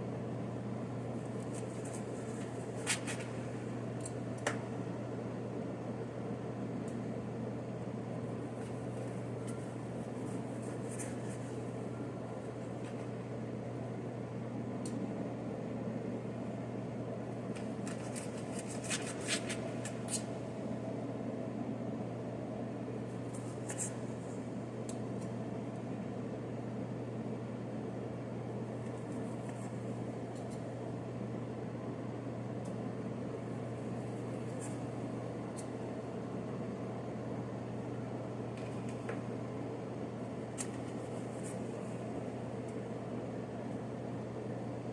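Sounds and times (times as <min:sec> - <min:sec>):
fan motor humming: 0:00.0 - 0:44.9.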